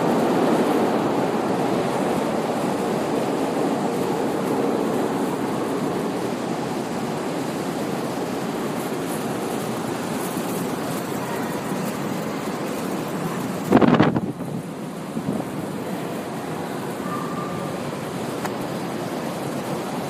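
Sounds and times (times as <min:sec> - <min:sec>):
metro station rumbling: 0:00.0 - 0:20.0.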